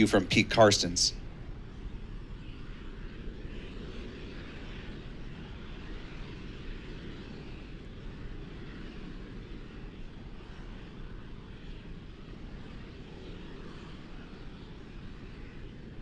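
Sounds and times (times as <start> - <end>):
distant rocket engine rumble: 0.0 - 16.0.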